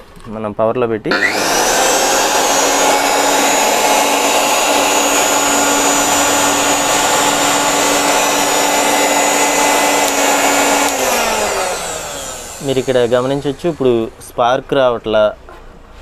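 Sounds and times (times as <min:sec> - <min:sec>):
electric motor whining: 0:01.1 - 0:14.0.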